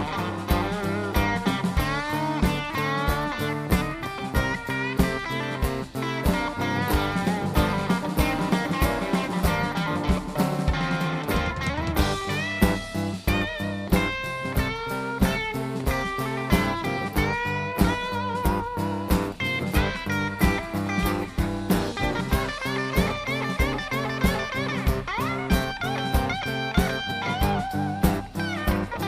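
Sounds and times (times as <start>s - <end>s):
blues band playing: 0.0s - 29.0s
lead guitar bending notes: 0.0s - 29.0s
steady drum beat: 0.0s - 29.0s.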